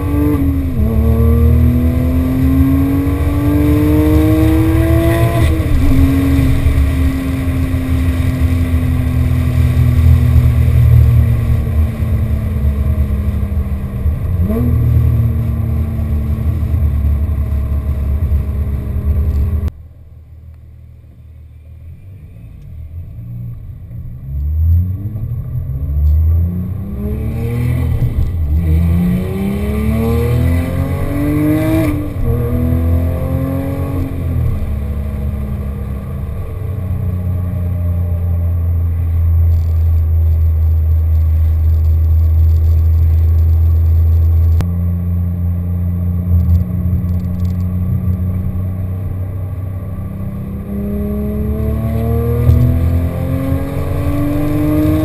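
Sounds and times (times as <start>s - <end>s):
car engine accelerating: 0.0s - 19.8s, 20.7s - 55.0s.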